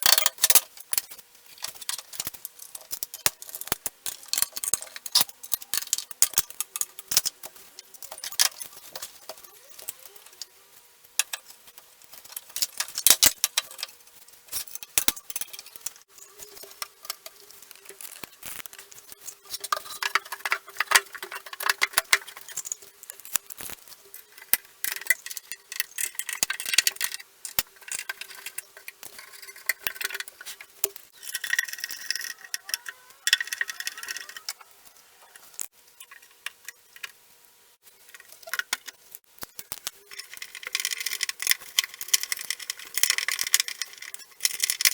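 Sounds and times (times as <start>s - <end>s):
metal fittings clicking and rattling: 0.0s - 10.5s, 11.2s - 37.2s, 38.1s - 44.9s.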